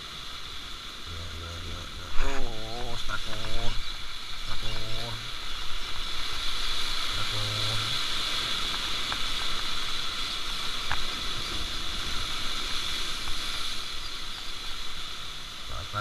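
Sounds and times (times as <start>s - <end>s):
waves washing over rocky shore: 0.0s - 16.0s.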